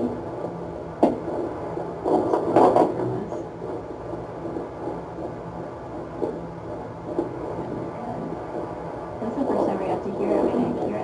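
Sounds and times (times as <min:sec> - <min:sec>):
fetal heartbeat through doppler speaker: 0:00.0 - 0:11.0.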